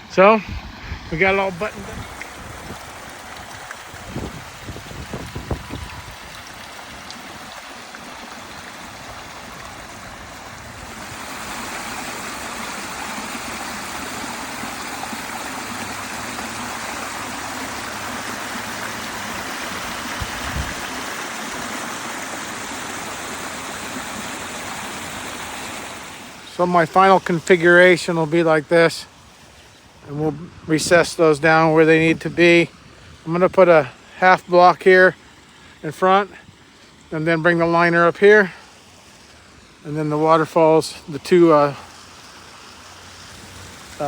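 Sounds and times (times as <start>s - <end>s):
water running over waterfall: 0.0s - 44.0s.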